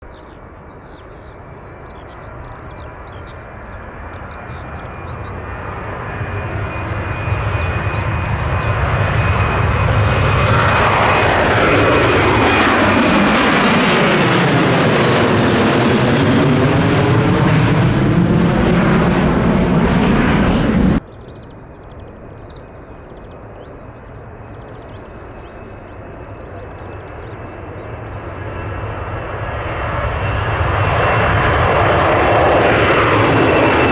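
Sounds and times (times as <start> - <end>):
jet engines at take-off power: 0.1 - 33.9
aircraft whooshing past: 0.6 - 21.5, 22.7 - 33.9.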